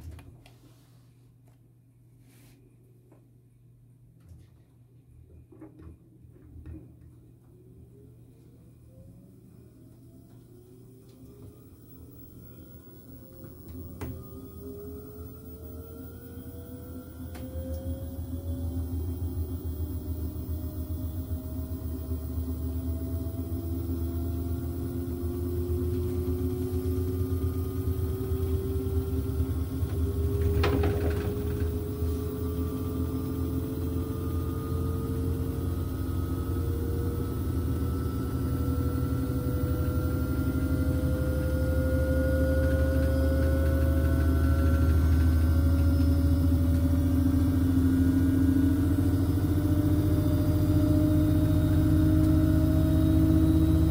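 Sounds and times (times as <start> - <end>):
motor whine rising in pitch: 8.9 - 53.9
washing machine spinning: 9.6 - 53.9.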